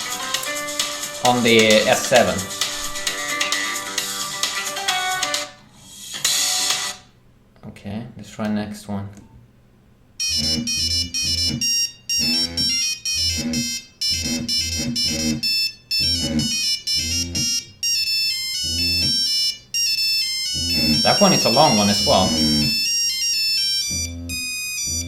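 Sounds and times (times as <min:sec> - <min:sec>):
synthesized ringtone melody: 0:00.0 - 0:05.4, 0:10.2 - 0:25.0.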